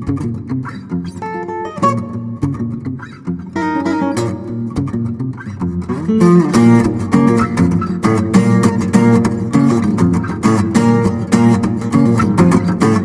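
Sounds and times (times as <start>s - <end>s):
fingerstyle acoustic guitar: 0.0s - 13.0s.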